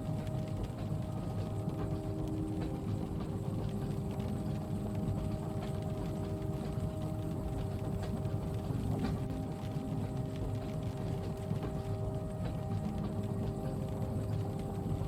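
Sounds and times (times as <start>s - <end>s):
rain ticking on window: 0.0s - 15.0s
train carriage rumble: 0.0s - 15.0s.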